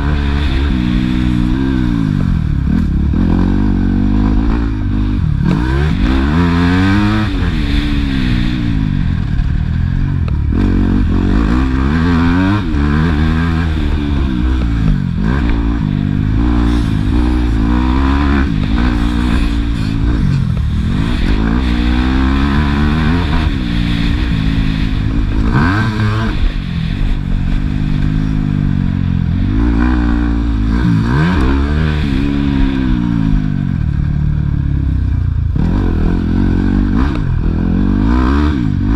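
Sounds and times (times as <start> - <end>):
motocross bike engine revving: 0.0 - 34.3, 35.2 - 38.9.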